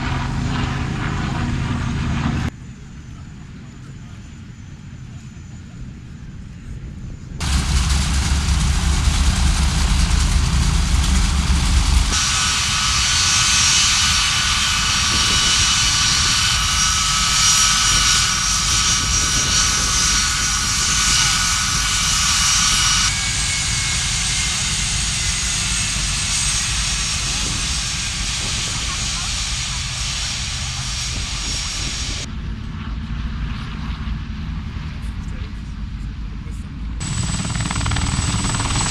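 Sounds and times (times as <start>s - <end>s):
aircraft engine rumble: 0.0s - 38.9s
high multi-tone whine: 2.5s - 32.3s, 37.0s - 38.9s.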